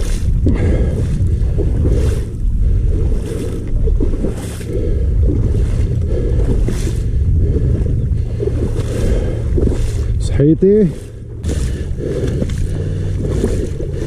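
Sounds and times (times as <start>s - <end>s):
splashing through shallow water: 0.0s - 14.0s
wind rumble on microphone: 0.0s - 14.0s.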